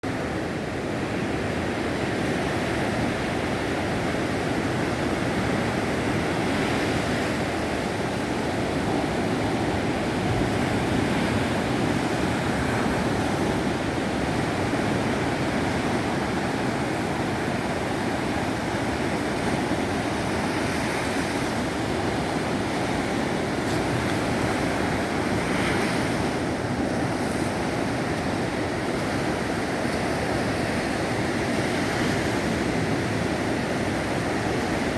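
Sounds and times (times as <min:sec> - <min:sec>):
surf washing on sandy beach: 0:00.0 - 0:34.9.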